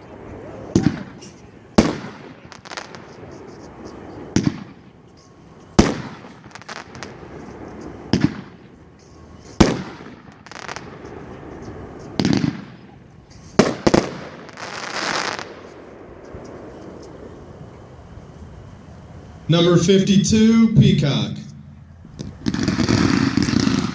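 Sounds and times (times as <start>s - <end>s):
fireworks shells bursting: 0.7s - 17.5s, 20.8s - 23.9s.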